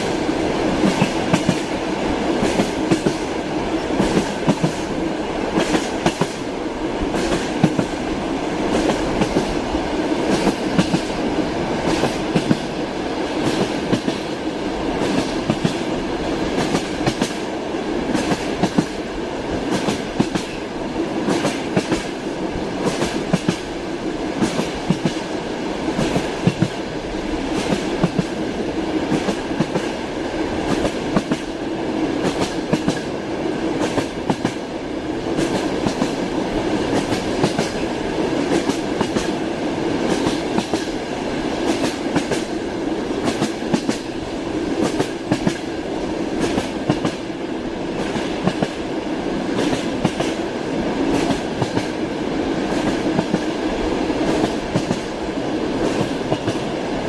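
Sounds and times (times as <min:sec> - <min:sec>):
railway carriage rumble: 0:00.0 - 0:57.0.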